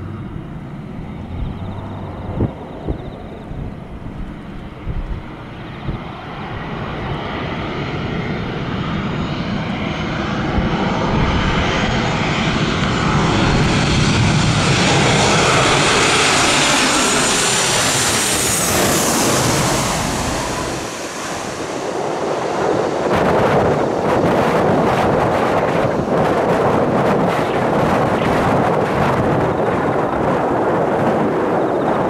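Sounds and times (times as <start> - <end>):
jet engines with high whine: 0.0 - 32.0.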